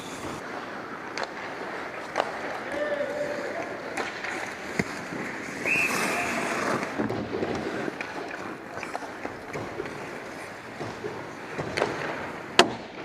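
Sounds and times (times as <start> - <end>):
skate blades scraping ice: 0.0 - 12.6
stick and puck clacks: 0.8 - 13.0.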